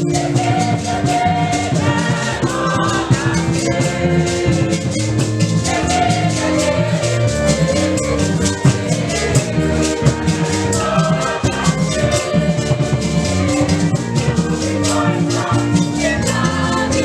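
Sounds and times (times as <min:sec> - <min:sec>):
music with shaker and drums: 0:00.0 - 0:17.0.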